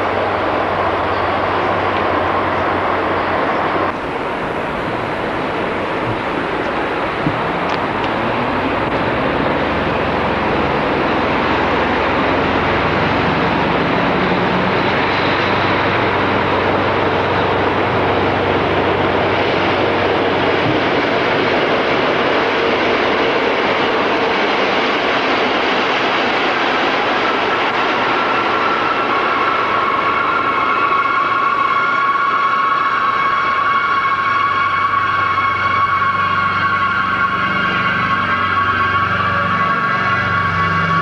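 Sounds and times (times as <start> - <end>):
high squeal: 0.0 - 41.0
train rumbling along track: 0.0 - 41.0.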